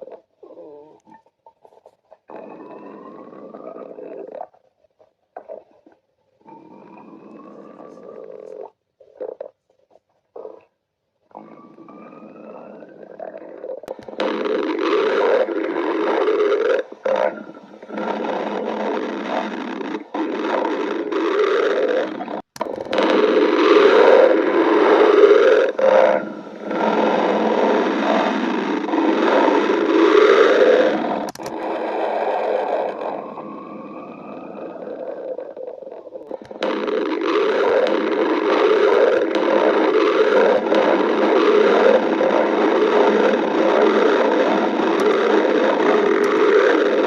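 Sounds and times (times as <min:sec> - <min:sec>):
stomach growling: 0:00.0 - 0:47.0.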